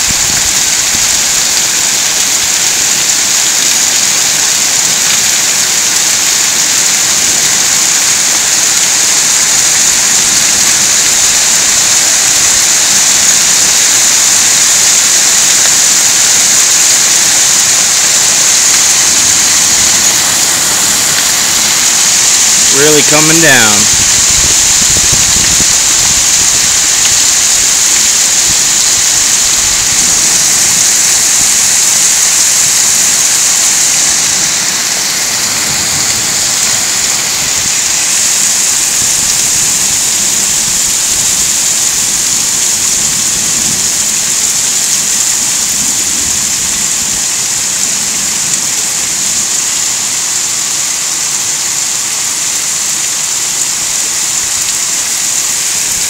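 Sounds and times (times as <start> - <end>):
hail on grass and stony ground: 0.0 - 56.0.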